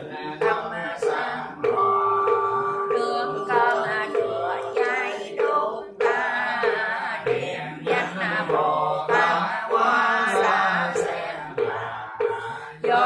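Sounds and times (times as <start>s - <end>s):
knock keeping time: 0.0s - 13.0s
prayer chanting: 0.0s - 13.0s.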